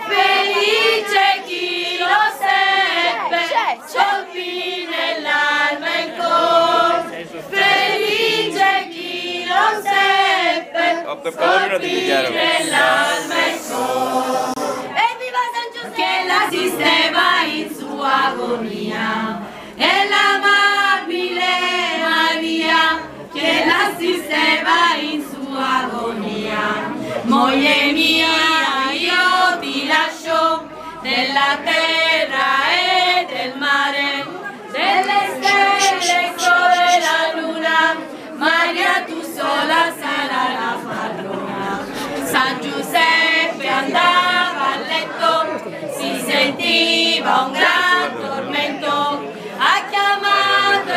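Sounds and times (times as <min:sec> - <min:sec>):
women singing together: 0:00.0 - 0:50.9.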